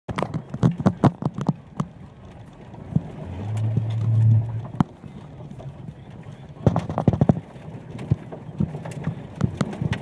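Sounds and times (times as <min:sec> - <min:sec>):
vehicle knocks and clunks over ruts: 0:00.1 - 0:10.0
low engine drone: 0:01.6 - 0:10.0.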